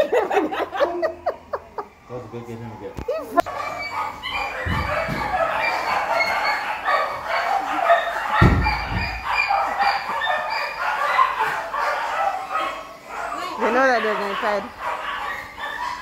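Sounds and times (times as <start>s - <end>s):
many dogs barking: 0.0s - 2.7s, 3.4s - 16.0s.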